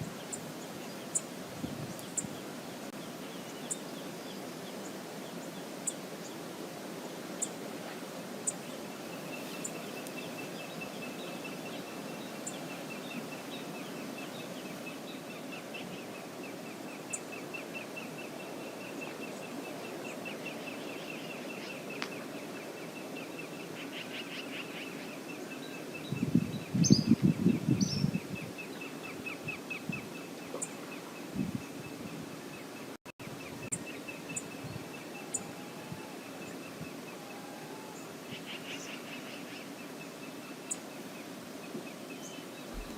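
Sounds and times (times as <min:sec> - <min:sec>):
steady rushing water: 0:00.0 - 0:42.9.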